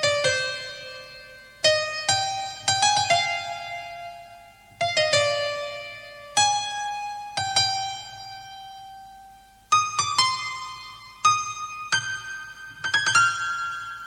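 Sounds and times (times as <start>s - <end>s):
slow piano-like keyboard music: 0.0s - 14.0s.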